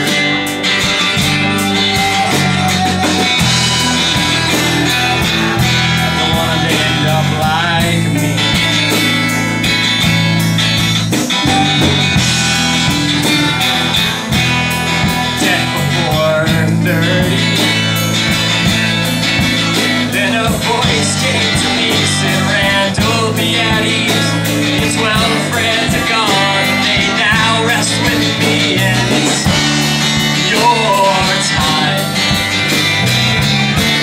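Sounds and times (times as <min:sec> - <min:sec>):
drums: 0:00.0 - 0:34.0
electric guitar: 0:00.0 - 0:34.0
strummed acoustic guitar: 0:00.0 - 0:34.0.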